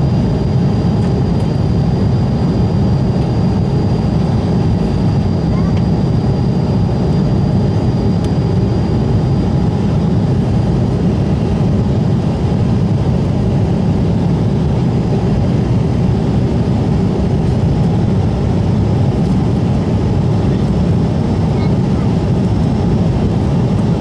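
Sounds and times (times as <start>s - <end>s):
jet engine hum in cabin: 0.0s - 24.0s.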